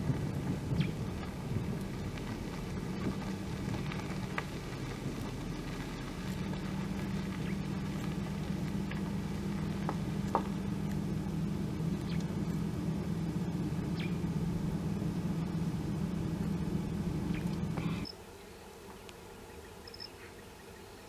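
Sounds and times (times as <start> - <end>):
bill rustling through dung: 0.0 - 18.1
steady low hum: 0.0 - 21.0.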